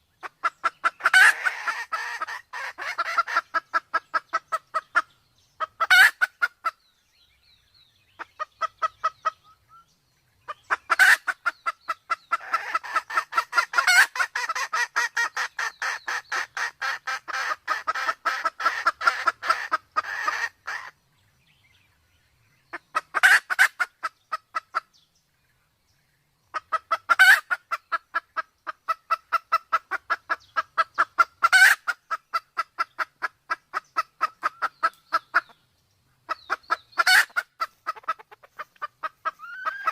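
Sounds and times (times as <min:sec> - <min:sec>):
junglefowl clucking: 0:00.0 - 0:06.8, 0:08.1 - 0:21.0, 0:22.7 - 0:24.9, 0:26.5 - 0:35.6, 0:36.2 - 0:39.9.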